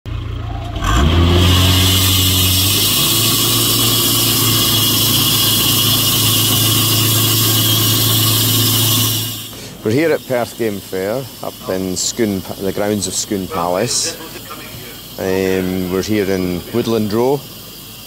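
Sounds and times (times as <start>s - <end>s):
petrol engine revving: 0.1s - 18.0s
band saw blade cutting log: 0.8s - 17.3s.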